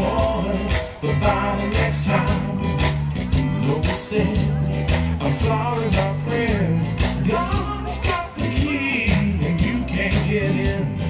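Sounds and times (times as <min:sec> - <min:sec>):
person singing over a beat: 0:00.0 - 0:11.0.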